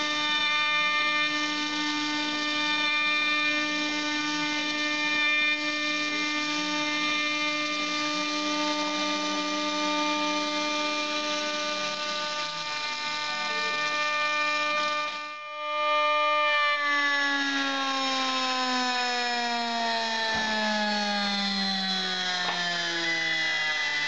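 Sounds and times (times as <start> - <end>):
cnc router whining: 0.0 - 24.0
low wavering tone: 0.0 - 24.0.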